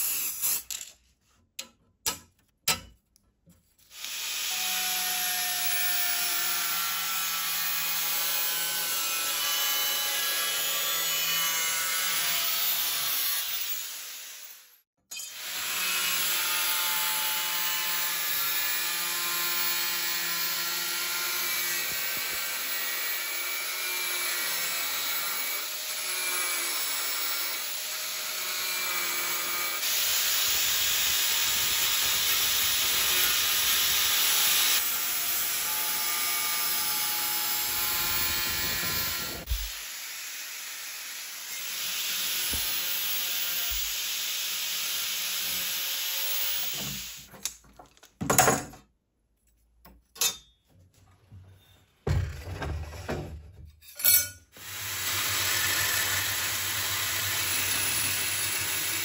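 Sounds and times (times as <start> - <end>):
angle grinder cutting steel: 3.9 - 47.3, 54.0 - 59.0.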